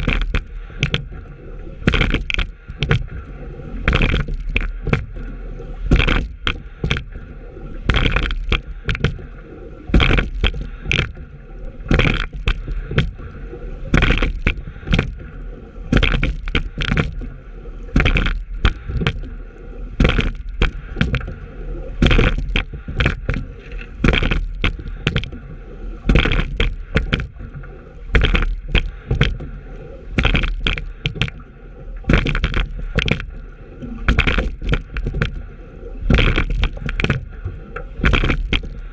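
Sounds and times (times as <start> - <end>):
oar blades splashing: 0.0 - 38.9
water washing along hull: 0.0 - 38.9.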